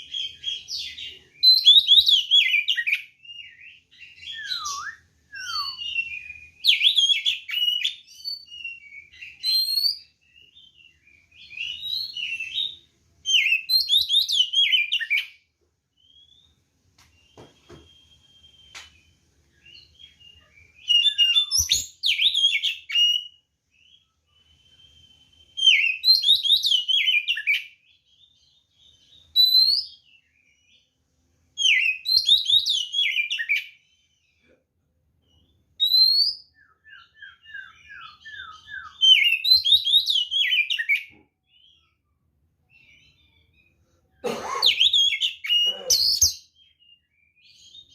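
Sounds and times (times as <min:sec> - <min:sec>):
songbird whistles and chatter: 0:00.0 - 0:15.4, 0:16.0 - 0:30.8, 0:31.6 - 0:34.4, 0:35.3 - 0:42.0, 0:44.4 - 0:47.9.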